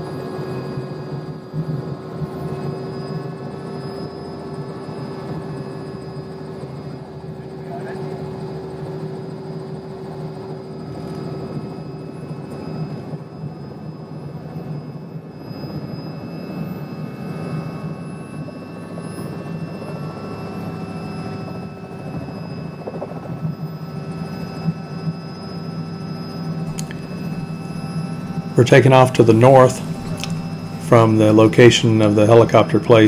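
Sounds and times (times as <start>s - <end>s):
helicopter engine and rotor: 0.0s - 33.0s
turbine whine: 0.0s - 33.0s.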